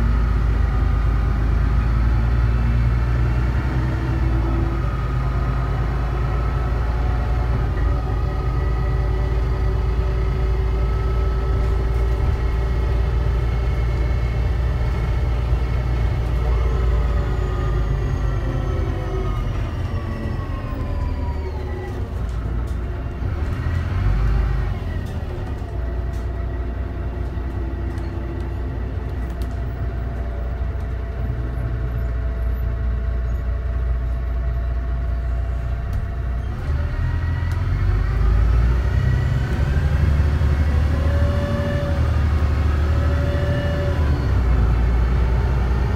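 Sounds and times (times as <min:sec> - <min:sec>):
bus diesel engine rumbling: 0:00.0 - 0:45.9.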